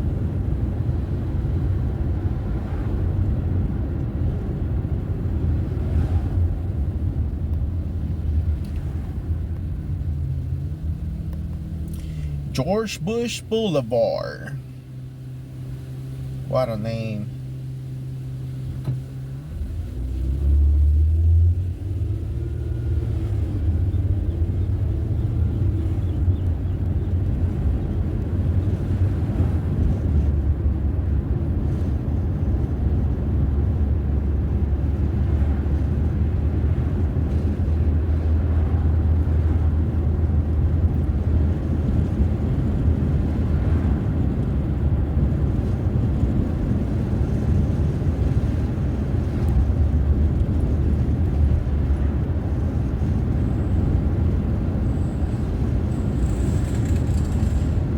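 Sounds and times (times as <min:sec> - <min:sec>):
car interior road and engine rumble: 0:00.0 - 0:57.9.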